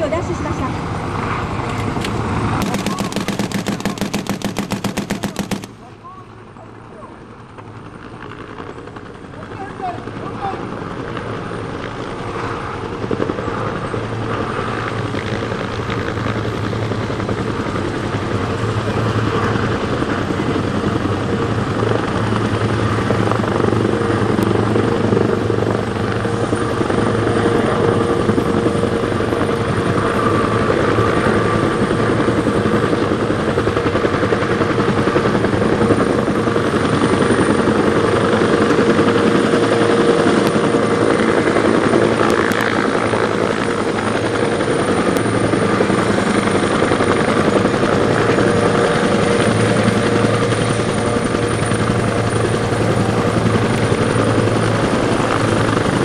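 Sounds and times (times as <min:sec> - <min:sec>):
helicopters flying overhead: 0:00.0 - 0:56.0.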